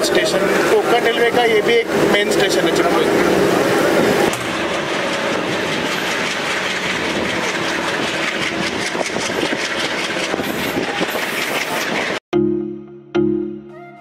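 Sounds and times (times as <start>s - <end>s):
train wheels clickety-clack on rails: 0.0s - 12.2s.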